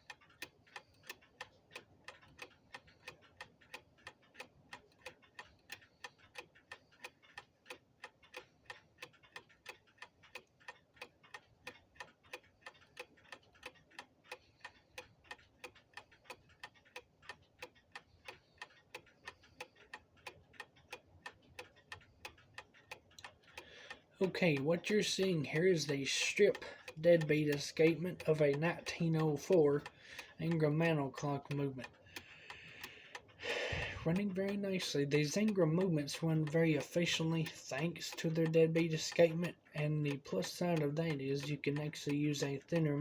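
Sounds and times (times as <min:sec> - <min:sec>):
clock ticking: 0:00.0 - 0:43.0.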